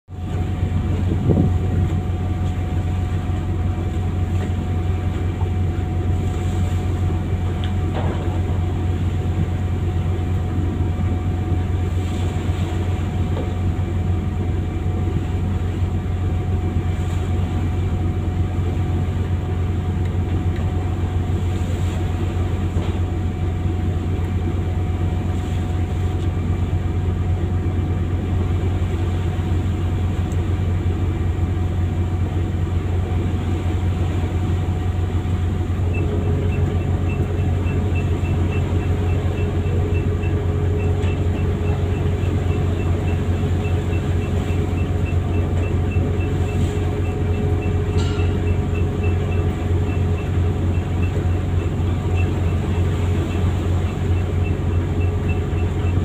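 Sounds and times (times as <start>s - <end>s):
boat engine droning: 0.1s - 56.0s.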